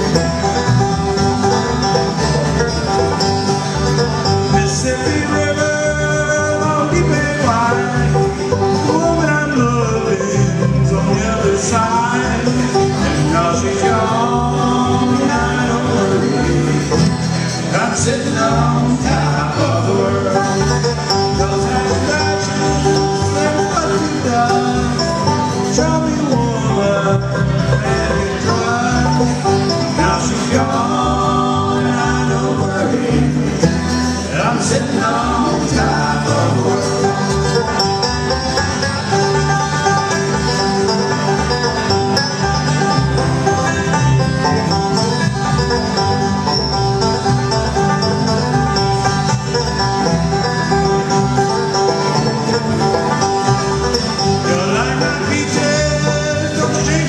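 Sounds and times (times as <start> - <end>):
acoustic guitars: 0.0 - 57.0
banjo: 0.0 - 57.0
upright bass: 0.0 - 57.0.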